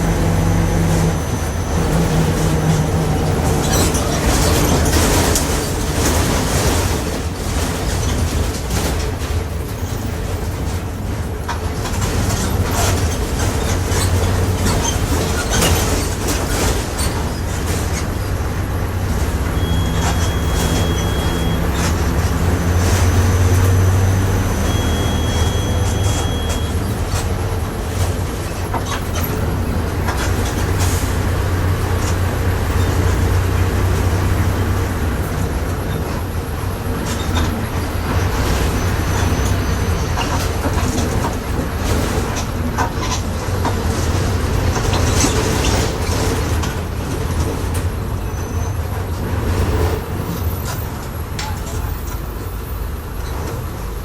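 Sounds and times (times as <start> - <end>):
bus body rattling: 0.0 - 54.0
bus driveline low hum: 0.0 - 54.0.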